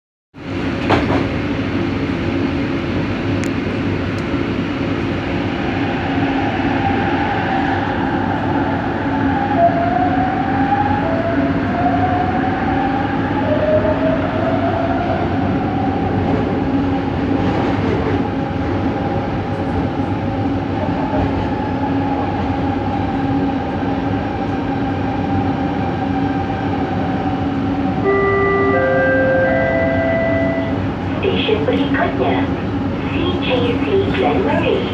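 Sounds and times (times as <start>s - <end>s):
train car rumble: 0.4s - 34.9s.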